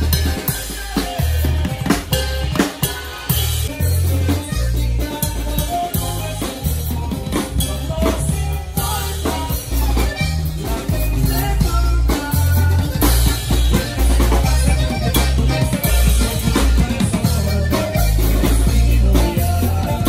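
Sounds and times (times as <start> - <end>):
drum kit beat: 0.0 - 20.0
electric bass notes: 0.0 - 20.0.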